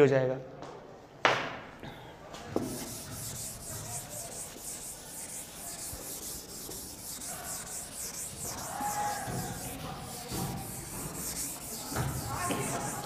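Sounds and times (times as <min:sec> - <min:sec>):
duster rubbing chalkboard: 0:02.5 - 0:13.0
duster knocking on chalkboard: 0:02.6 - 0:13.0.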